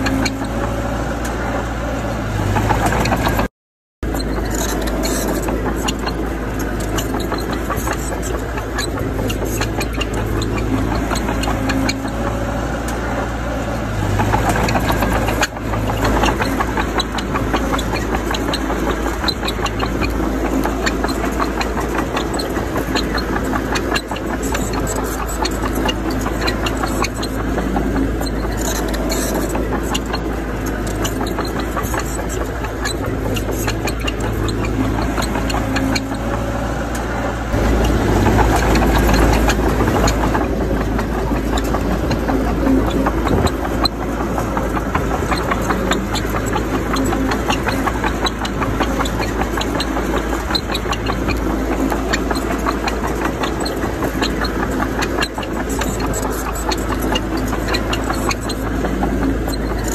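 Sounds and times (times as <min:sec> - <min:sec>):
diesel engine running: 0:00.0 - 0:59.9
rattle of small clanks: 0:02.4 - 0:13.2, 0:14.0 - 0:59.9.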